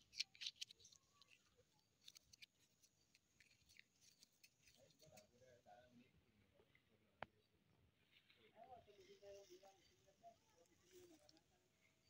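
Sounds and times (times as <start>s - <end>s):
faint clicks and rustles: 0.0s - 12.0s.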